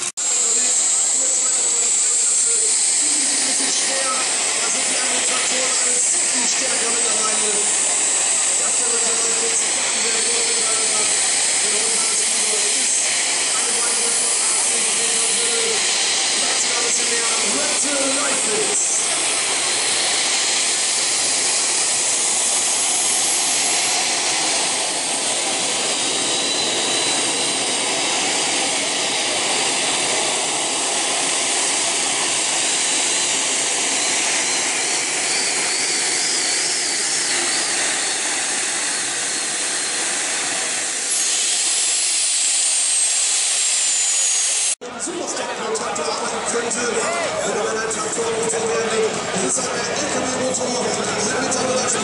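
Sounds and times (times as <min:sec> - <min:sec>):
gas turbine jet-like roar with whine: 0:00.0 - 0:52.0.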